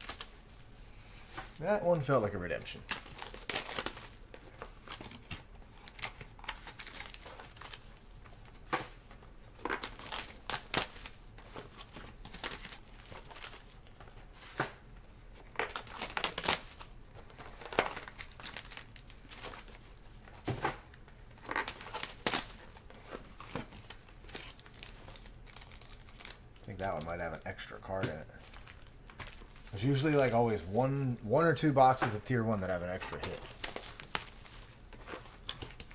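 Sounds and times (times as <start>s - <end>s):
wrappers crinkling and tearing: 0.0s - 14.4s, 15.1s - 20.4s, 21.0s - 35.9s.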